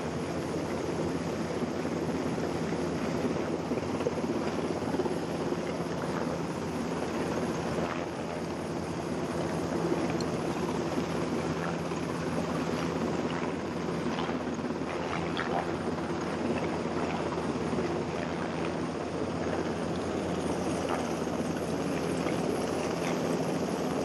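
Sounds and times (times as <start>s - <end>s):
boat engines: 0.0s - 24.0s
helicopter hovering overhead: 0.0s - 24.0s
water wake rushing: 0.0s - 24.0s.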